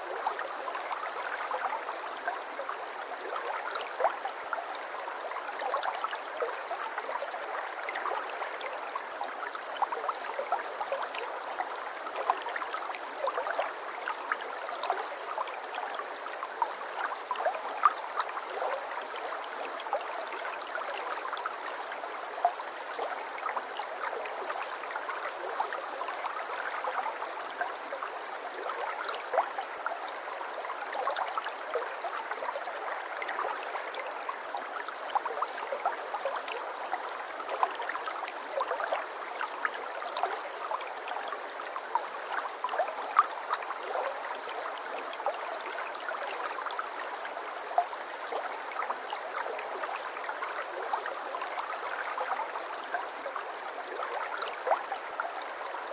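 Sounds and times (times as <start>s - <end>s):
brook babbling over stones: 0.0s - 55.9s.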